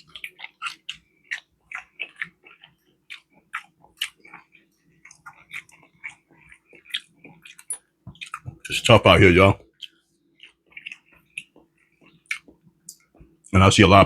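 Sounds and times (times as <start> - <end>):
person chewing food: 0.0 - 13.5.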